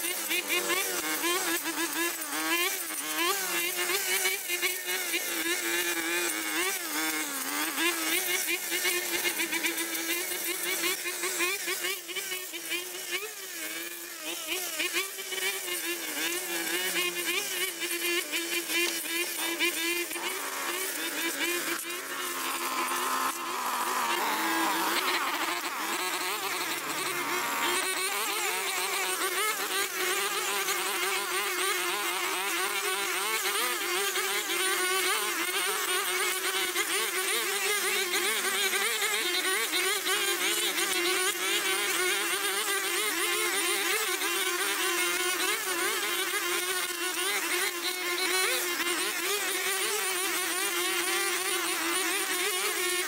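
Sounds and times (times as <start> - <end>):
brush cutter engine running: 0.0 - 53.0.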